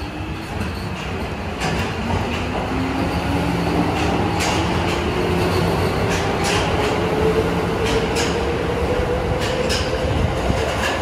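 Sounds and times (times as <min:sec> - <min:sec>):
wheels clacking on rails: 0:00.0 - 0:11.0.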